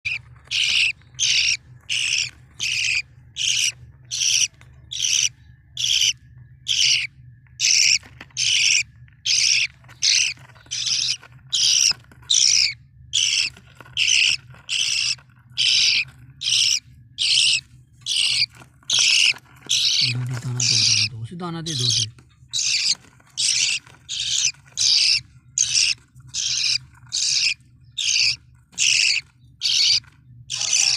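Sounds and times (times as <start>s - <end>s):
budgerigar screeching calls: 0.1s - 30.9s.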